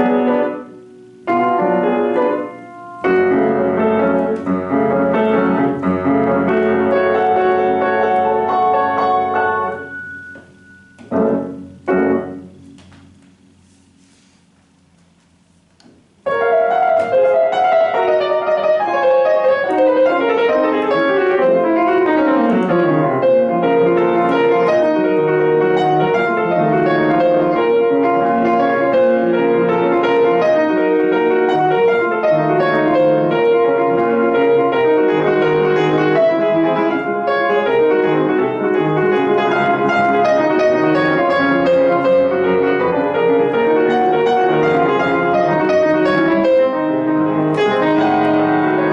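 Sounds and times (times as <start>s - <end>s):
solo piano piece: 0.0s - 48.9s.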